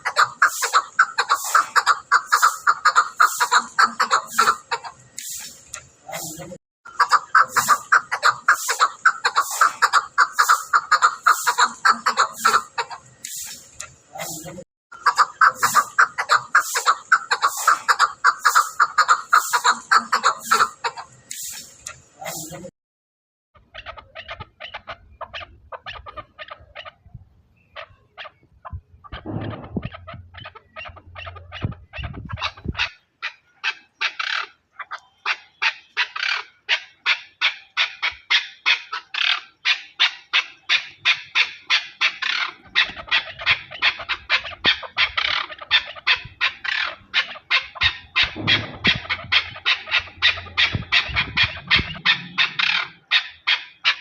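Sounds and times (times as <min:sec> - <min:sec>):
partridge calling: 0:00.0 - 0:22.6, 0:23.6 - 0:54.0.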